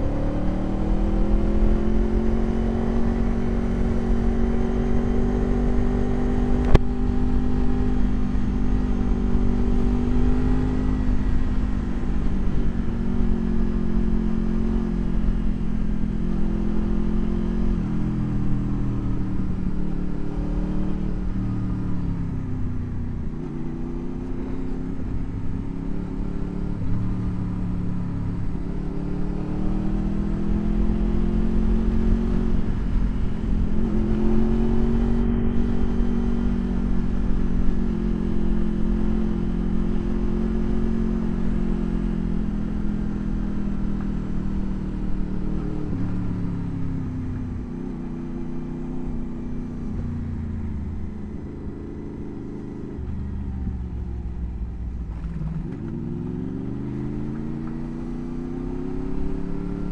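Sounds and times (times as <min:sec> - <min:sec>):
wind rumble on microphone: 0:00.0 - 0:48.5
motorcycle engine revving: 0:00.0 - 0:59.9.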